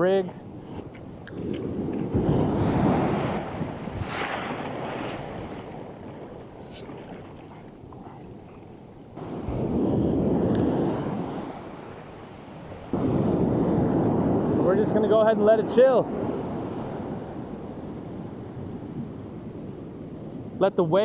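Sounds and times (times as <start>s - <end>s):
ocean surf on beach: 0.0s - 21.0s
wind buffeting microphone: 0.0s - 21.0s.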